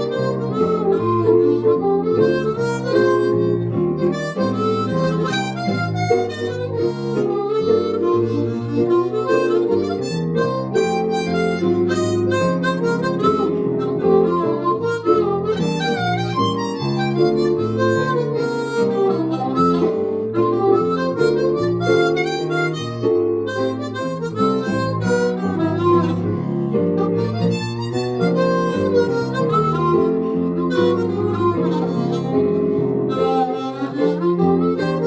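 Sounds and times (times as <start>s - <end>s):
harmonica playing blues: 0.0s - 35.0s.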